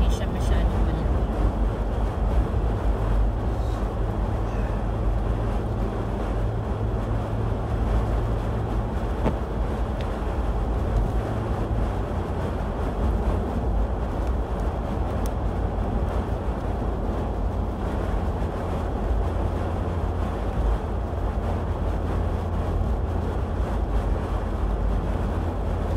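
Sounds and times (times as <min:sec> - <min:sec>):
car engine rumble: 0:00.0 - 0:25.9
tyres on slushy road: 0:00.0 - 0:25.9.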